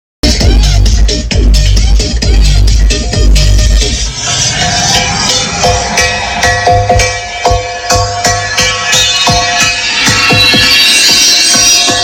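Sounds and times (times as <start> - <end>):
heavy bass dance music: 0.2 - 12.0.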